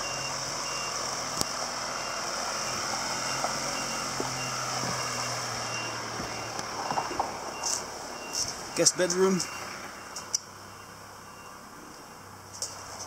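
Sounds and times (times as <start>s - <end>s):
reversing alarm beeping: 0.0s - 11.6s
low engine hum: 0.0s - 13.0s.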